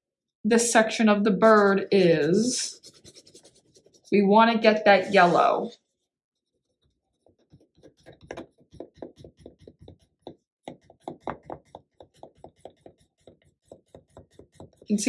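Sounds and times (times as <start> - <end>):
crayon rubbing on paper: 1.4 - 15.0.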